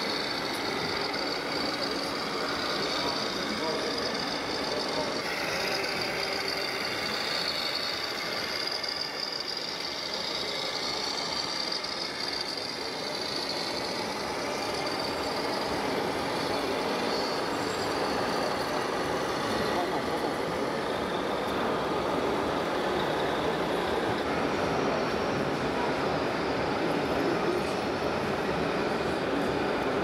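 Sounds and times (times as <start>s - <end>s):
model truck engine with whine: 0.0s - 30.0s.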